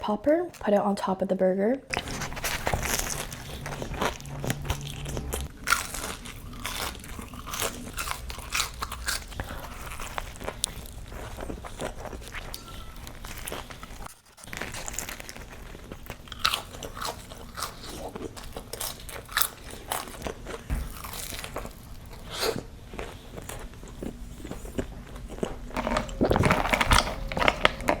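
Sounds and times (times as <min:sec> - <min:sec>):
person chewing crunchy food: 0:01.9 - 0:28.0.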